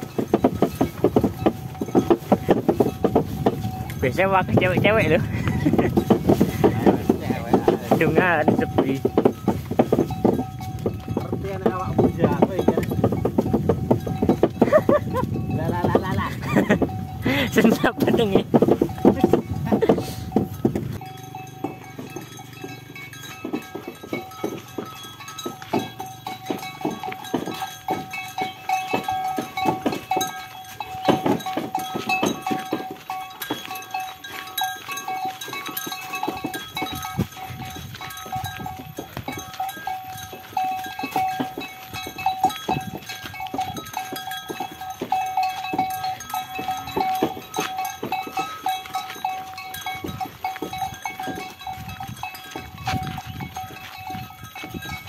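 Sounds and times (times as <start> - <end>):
cart and hooves clattering: 0.0 - 55.0
bell ringing: 5.9 - 55.0.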